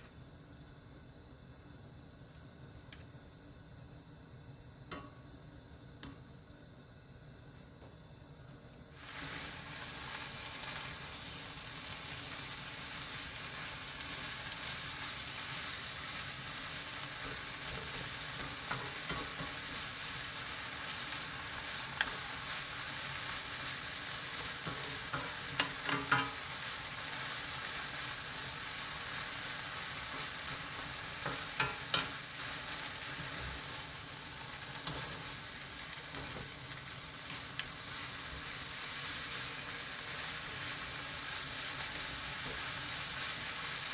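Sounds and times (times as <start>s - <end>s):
greens sizzling in a pan: 0.0s - 43.9s.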